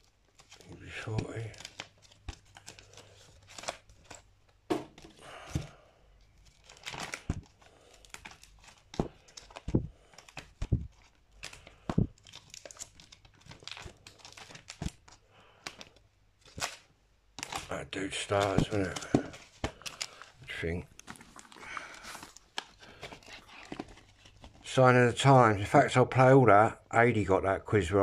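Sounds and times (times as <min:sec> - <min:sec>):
plastic sleeves crinkling: 0:00.0 - 0:24.8.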